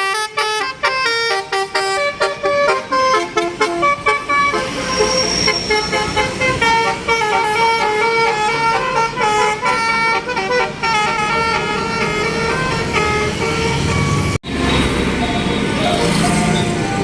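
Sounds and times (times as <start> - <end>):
musical bus horn melody: 0.0 - 17.0
vehicle engine noise: 0.1 - 17.0.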